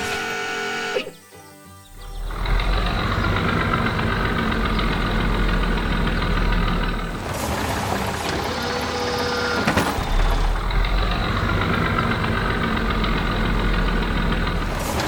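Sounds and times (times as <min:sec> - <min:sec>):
cartoon vehicle engine running: 0:01.9 - 0:15.0.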